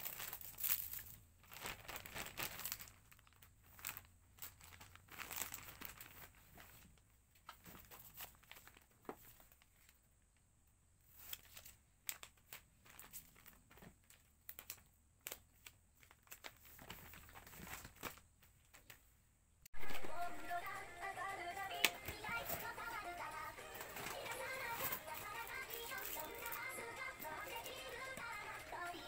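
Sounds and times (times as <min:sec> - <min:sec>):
packaging crinkling and rustling: 0:00.0 - 0:10.0, 0:11.1 - 0:19.1, 0:19.8 - 0:20.8, 0:21.6 - 0:29.0.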